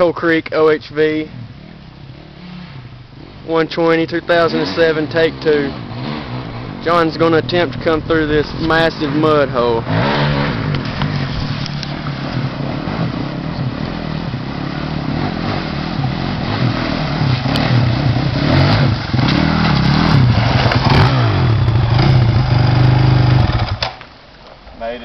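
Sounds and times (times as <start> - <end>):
dirt bike engine revving: 1.2 - 23.9.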